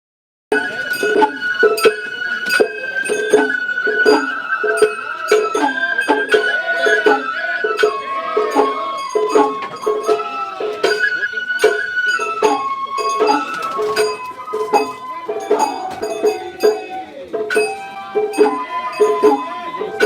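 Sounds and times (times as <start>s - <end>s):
high flute long notes: 0.5s - 20.0s.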